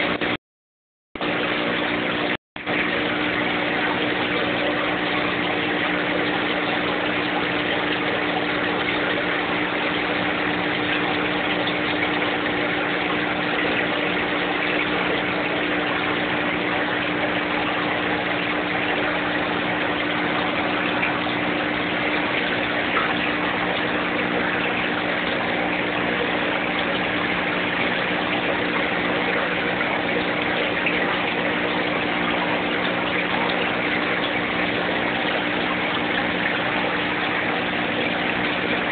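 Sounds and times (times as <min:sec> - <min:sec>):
aquarium pump humming: 0:00.0 - 0:00.4, 0:01.2 - 0:38.9
bubbling splashing water: 0:00.0 - 0:00.4, 0:01.2 - 0:38.9.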